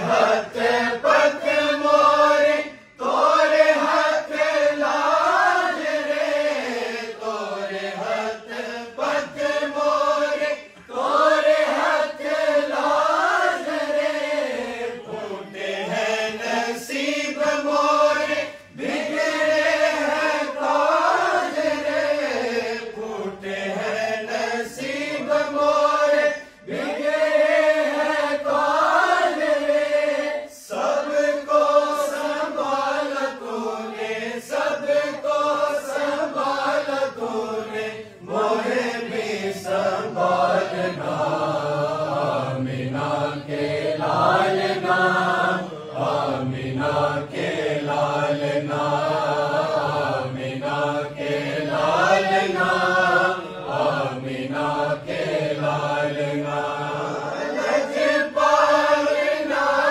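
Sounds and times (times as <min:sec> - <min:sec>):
group chanting in unison: 0:00.0 - 0:59.9.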